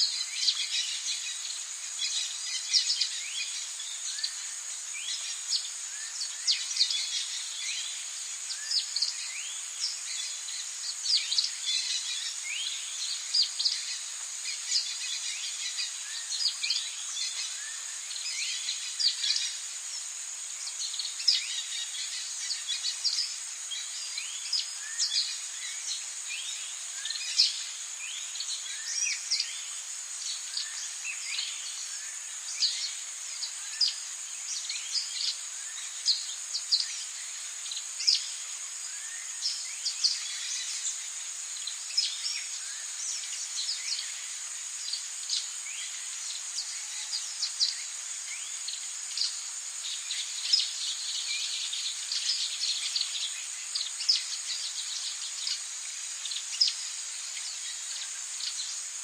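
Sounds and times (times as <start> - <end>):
insect drone: 0.0 - 59.0.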